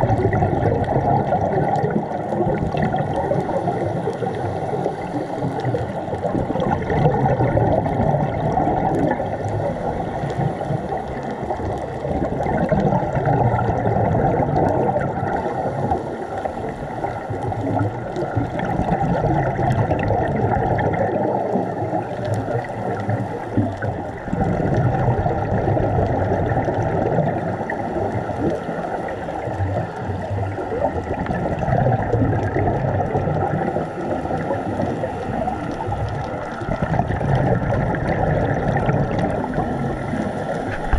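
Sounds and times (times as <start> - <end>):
regulator bubbles underwater: 0.0 - 40.9
faint reef clicks: 0.8 - 13.9, 14.6 - 20.1, 21.4 - 31.6, 32.4 - 40.9.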